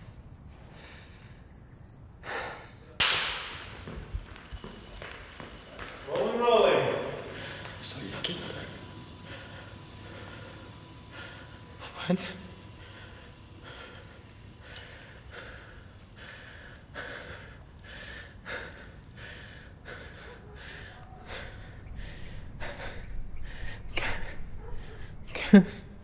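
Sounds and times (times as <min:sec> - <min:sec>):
man breathing heavily: 0:00.4 - 0:03.0, 0:06.9 - 0:26.0.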